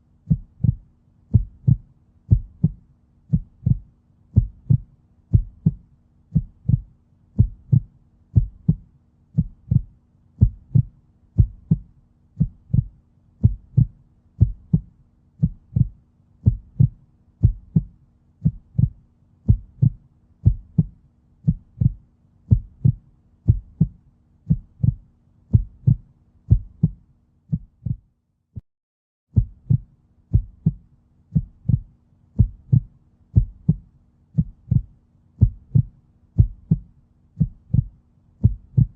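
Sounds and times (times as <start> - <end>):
faint steady hum: 0.0 - 28.0, 29.4 - 38.9
heartbeat: 0.2 - 28.1, 29.3 - 38.9.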